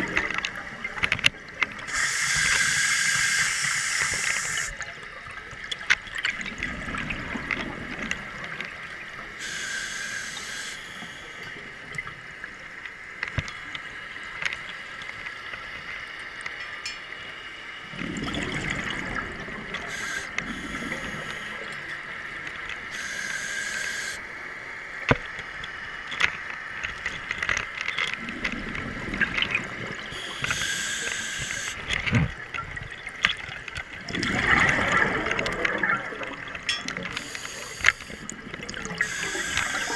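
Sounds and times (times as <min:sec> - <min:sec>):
regulator bubbles gurgling: 0:00.0 - 0:15.0, 0:17.8 - 0:24.4, 0:28.0 - 0:39.9.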